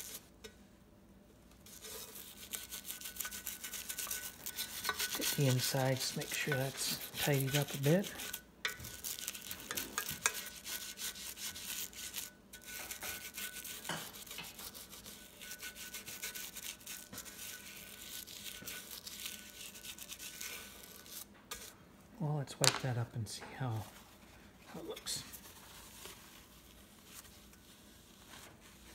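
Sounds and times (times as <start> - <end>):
stiff brush scrubbing grime: 1.6 - 21.8, 24.8 - 28.9.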